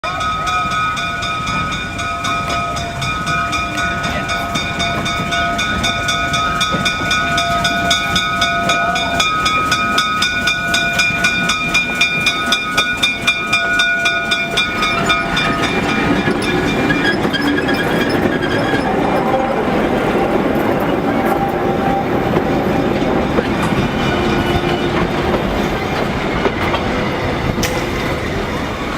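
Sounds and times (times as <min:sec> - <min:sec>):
high-pitched locomotive tones: 0:00.0 - 0:28.9
train rumbling: 0:00.0 - 0:28.9.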